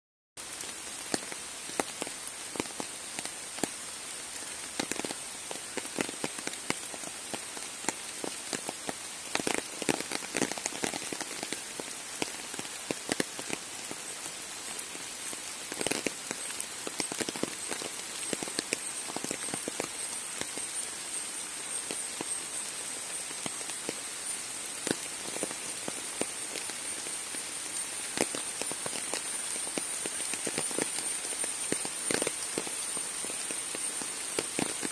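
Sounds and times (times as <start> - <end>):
rain falling on trees: 0.4 - 34.9.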